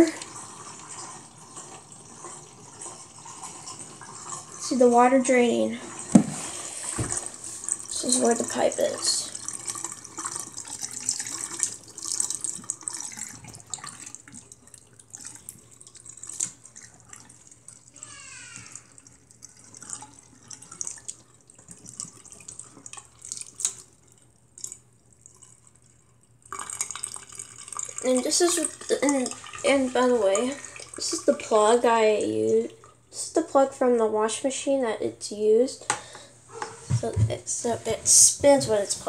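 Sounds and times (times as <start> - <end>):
water dripping: 0.0 - 33.7
water pouring into sink: 0.0 - 34.2, 36.9 - 39.0.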